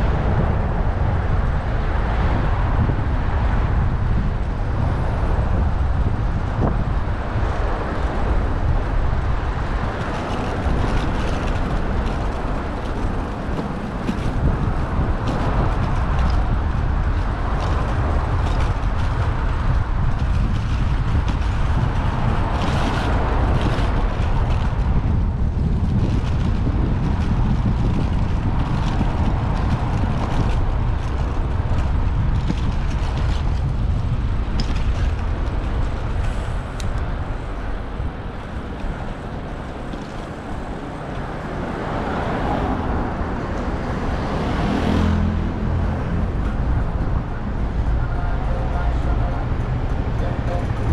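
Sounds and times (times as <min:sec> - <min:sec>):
road and traffic noise: 0:00.0 - 0:50.9
wind rumble on microphone: 0:00.0 - 0:50.9.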